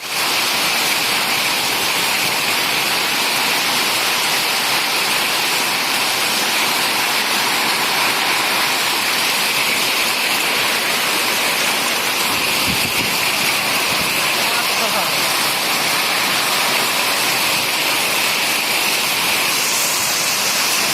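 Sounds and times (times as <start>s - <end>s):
heavy rain and hail: 0.0s - 20.9s.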